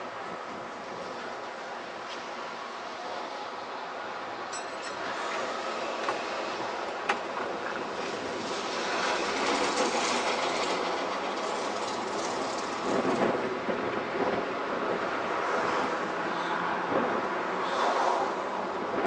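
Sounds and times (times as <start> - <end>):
tram rolling on track: 0.0 - 19.0.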